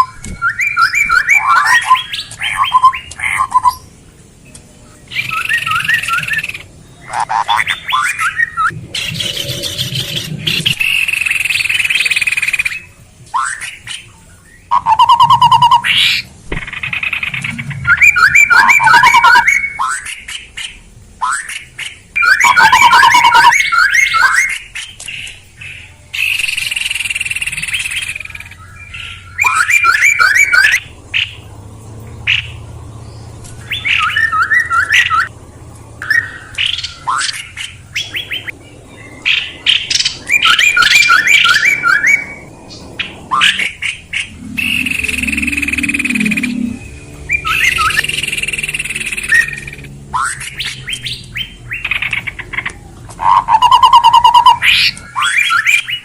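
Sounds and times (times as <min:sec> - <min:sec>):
harsh hissing bird calls: 0:00.0 - 0:56.0
songbird chirping: 0:00.0 - 0:56.0.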